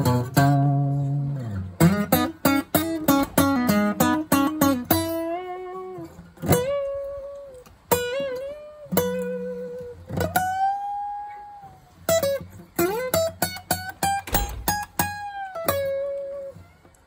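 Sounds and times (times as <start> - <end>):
acoustic guitar lead solo: 0.0 - 17.0.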